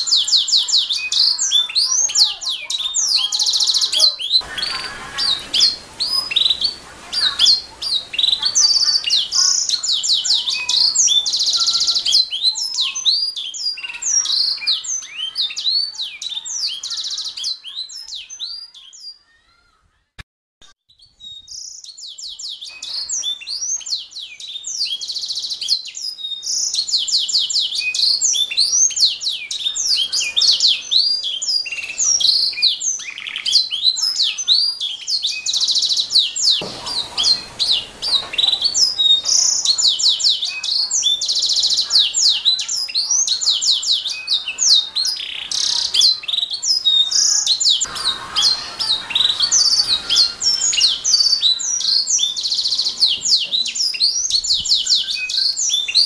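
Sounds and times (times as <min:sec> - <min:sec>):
canary singing trills: 0:00.0 - 0:19.8, 0:20.9 - 0:56.0.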